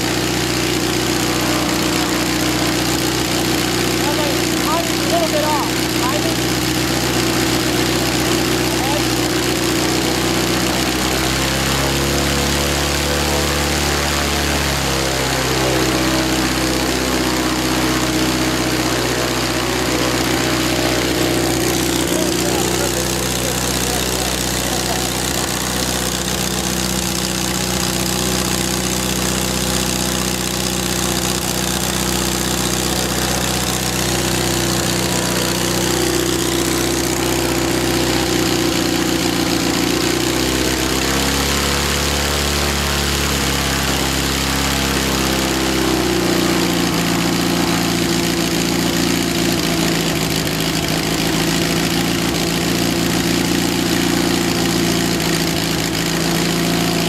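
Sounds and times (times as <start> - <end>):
aircraft engine running: 0.0 - 57.0.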